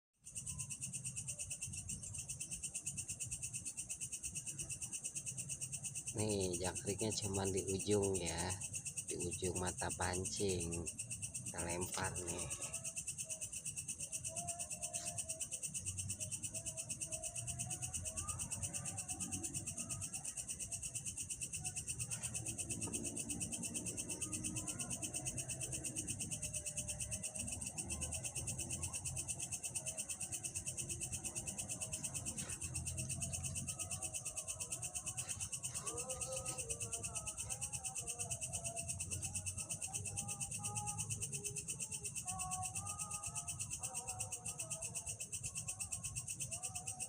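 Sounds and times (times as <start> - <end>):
insects trilling: 0.2 - 47.0.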